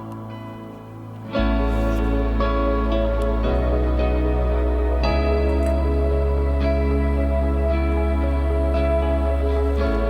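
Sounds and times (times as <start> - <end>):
soft new-age music: 0.0 - 10.0.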